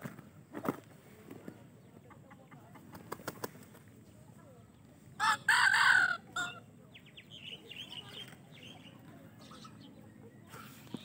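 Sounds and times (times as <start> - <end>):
chicken clucking and chirping: 0.0 - 11.0.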